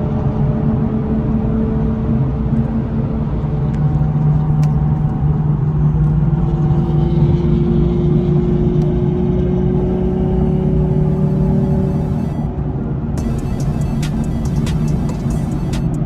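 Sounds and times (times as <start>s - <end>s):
car engine running: 2.0s - 16.0s.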